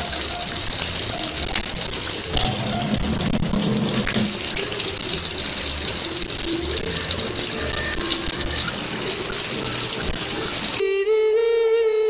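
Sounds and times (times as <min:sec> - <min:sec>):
faucet water splashing into sink: 0:00.0 - 0:10.8.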